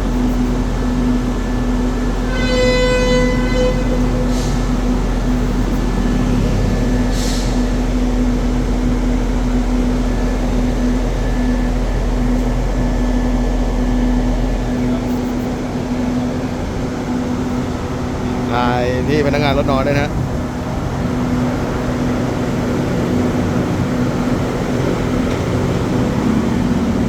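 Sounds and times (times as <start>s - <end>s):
diesel train engines idling: 0.0s - 27.0s.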